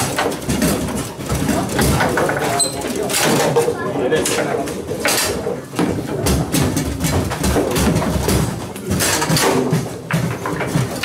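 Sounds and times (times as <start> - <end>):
rods knocking and sliding: 0.0 - 11.0.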